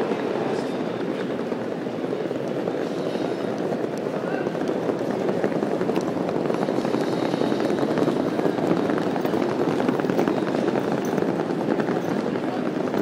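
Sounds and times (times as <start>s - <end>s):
airport terminal rumble: 0.0s - 13.0s.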